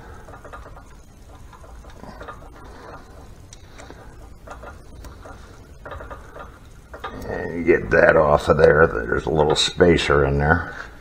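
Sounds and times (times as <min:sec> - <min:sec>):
sharp metal ticks: 0:00.0 - 0:09.8.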